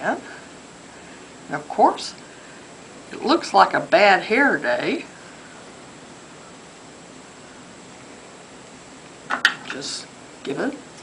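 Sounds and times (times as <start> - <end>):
background hiss: 0.0 - 11.0
faint high-pitched whine: 0.0 - 11.0.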